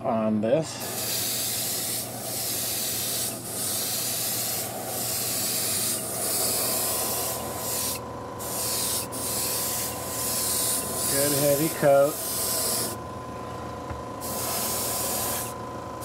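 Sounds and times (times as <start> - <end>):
airbrush spraying hiss: 0.8 - 13.0, 14.2 - 15.6.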